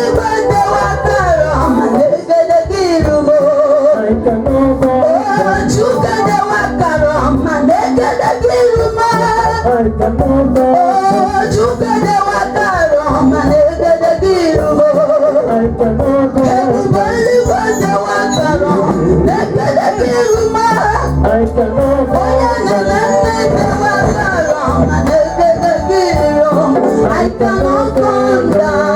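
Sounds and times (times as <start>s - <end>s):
band playing gospel song: 0.0s - 28.9s
people singing: 0.0s - 28.9s.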